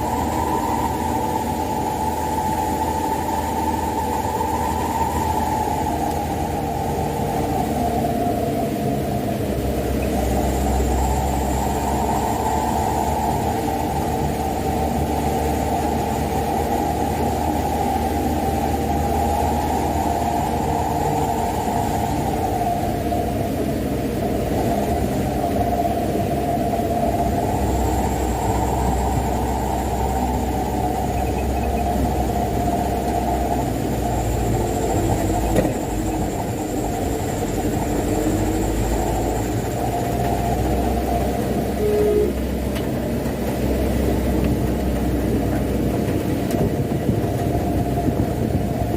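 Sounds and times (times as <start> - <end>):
diesel truck engine rumbling: 0.0 - 48.9.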